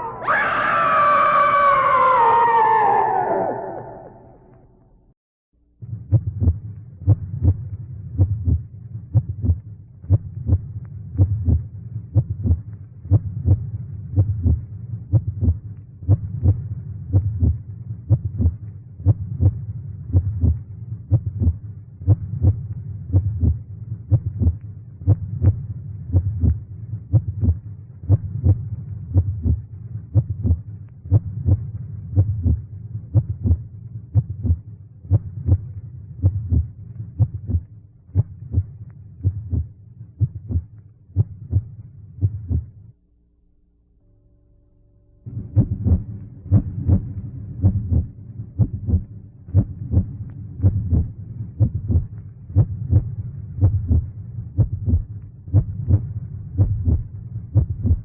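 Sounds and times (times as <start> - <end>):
continuous low hum: 5.6 - 58.0
heartbeat: 5.9 - 42.8, 45.3 - 58.0.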